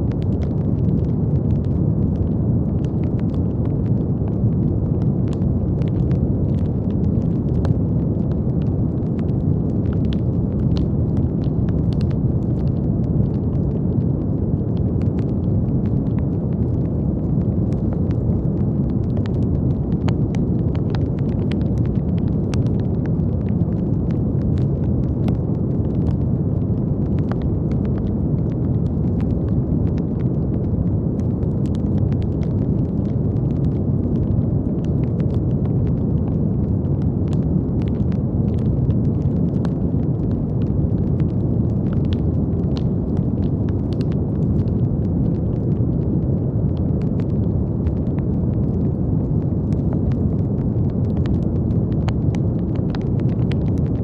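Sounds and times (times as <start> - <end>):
brown noise rumbling hiss: 0.0 - 54.0
light crackles: 0.0 - 54.0.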